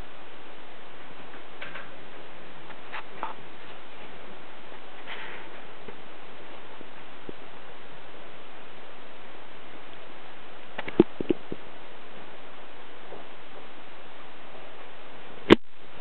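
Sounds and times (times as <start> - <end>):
recording hiss: 0.0 - 16.0.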